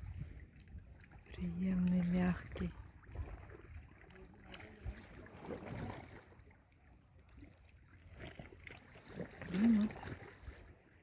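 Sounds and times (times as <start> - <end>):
sea water lapping: 0.0 - 11.0.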